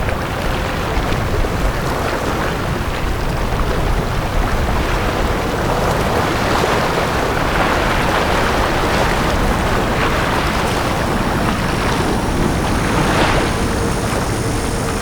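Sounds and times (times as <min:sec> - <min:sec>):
waves washing onto beach: 0:00.0 - 0:15.0
wind rumble on microphone: 0:00.0 - 0:15.0.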